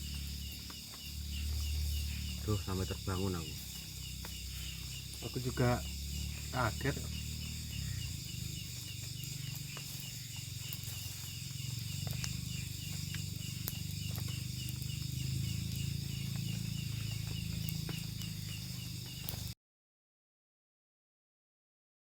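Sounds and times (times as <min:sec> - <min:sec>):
low rumble: 0:00.0 - 0:18.3
crickets shrilling: 0:00.0 - 0:19.6
insect chirping: 0:00.0 - 0:19.6.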